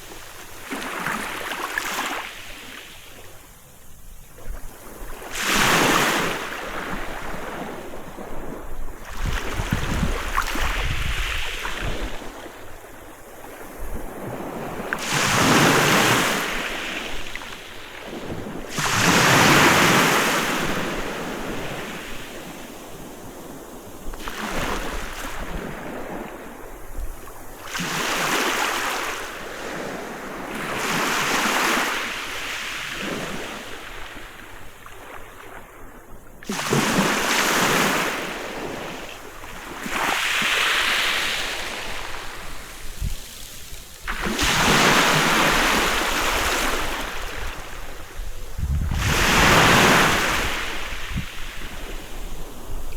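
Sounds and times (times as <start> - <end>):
waves breaking on beach: 0.0 - 52.9.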